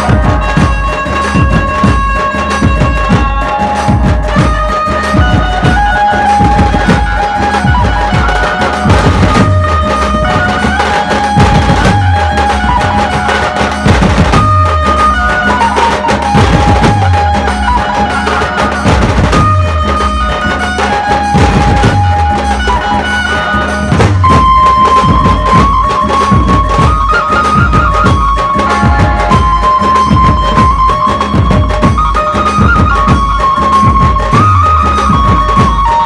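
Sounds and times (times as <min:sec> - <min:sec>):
barrel drums beating: 0:00.0 - 0:36.0
held-note melody: 0:00.0 - 0:36.0.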